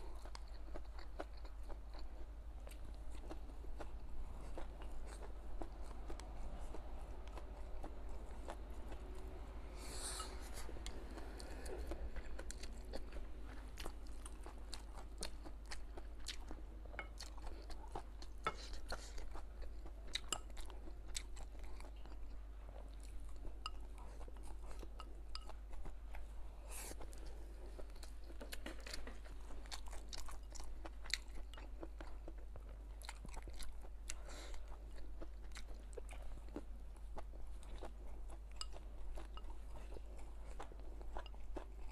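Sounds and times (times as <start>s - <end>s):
person chewing and crunching: 0.0s - 41.9s.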